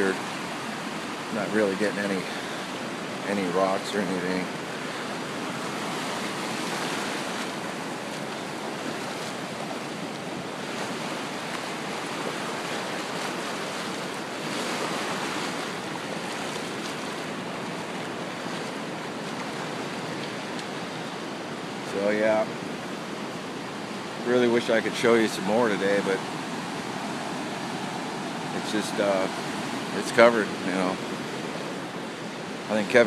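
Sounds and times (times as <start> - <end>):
surf washing over rocks: 0.0 - 33.0.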